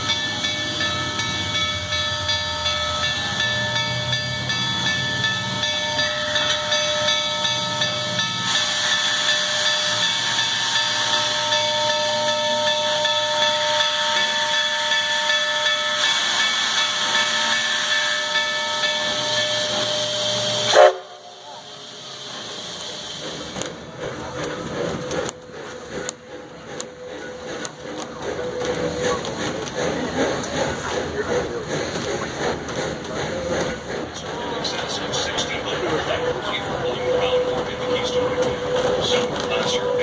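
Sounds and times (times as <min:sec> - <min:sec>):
steam hissing: 0:00.2 - 0:40.0.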